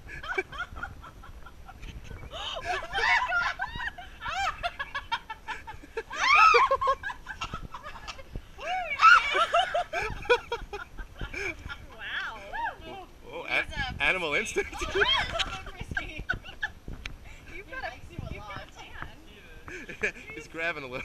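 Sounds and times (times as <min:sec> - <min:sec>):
women laughing and squealing: 0:00.0 - 0:13.1, 0:14.6 - 0:18.9.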